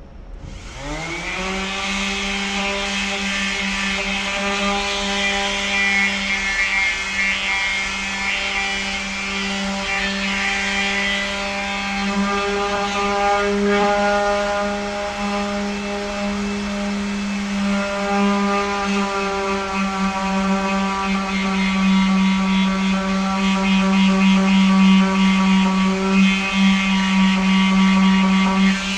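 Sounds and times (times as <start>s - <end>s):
electric sander on metal: 0.4s - 28.9s.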